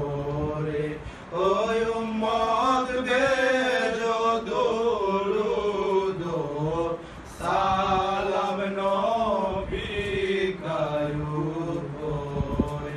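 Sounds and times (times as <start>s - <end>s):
men chanting devotional song: 0.0s - 12.9s.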